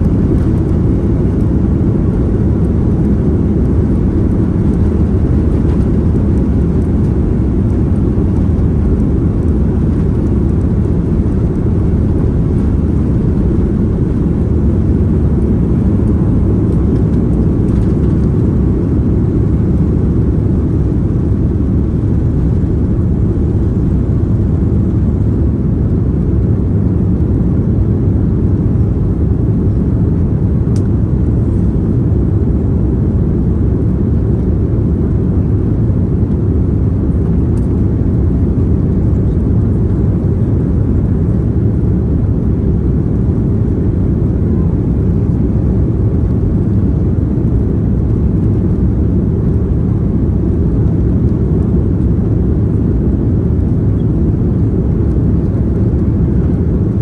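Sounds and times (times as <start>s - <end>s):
airliner low rumble: 0.0s - 57.0s.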